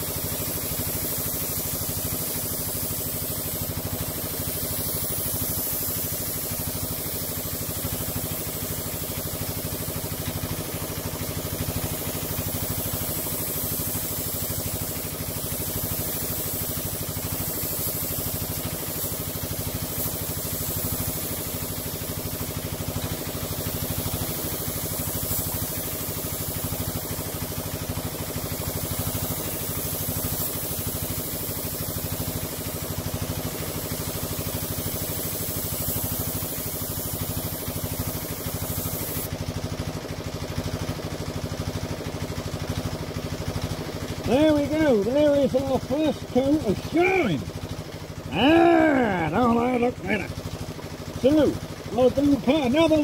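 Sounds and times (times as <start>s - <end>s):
air compressor running: 0.0s - 53.0s
spray gun hissing: 0.0s - 53.0s.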